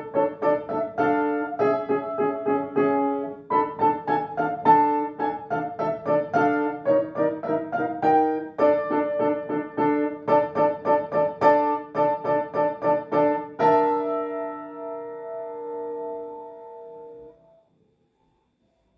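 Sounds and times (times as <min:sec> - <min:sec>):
upright piano playing a carol: 0:00.0 - 0:17.5.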